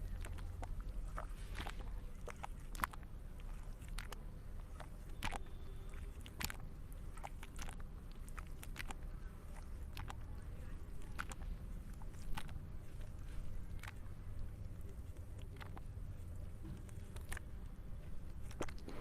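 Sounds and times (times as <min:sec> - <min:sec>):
low steady rumble: 0:00.0 - 0:19.0
sticky slime squeezed by hand: 0:00.0 - 0:19.0.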